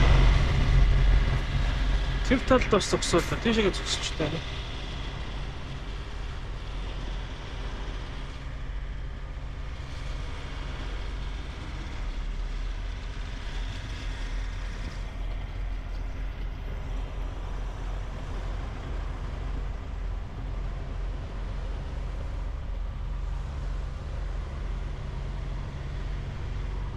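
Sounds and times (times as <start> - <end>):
diesel truck engine droning: 0.0 - 26.9.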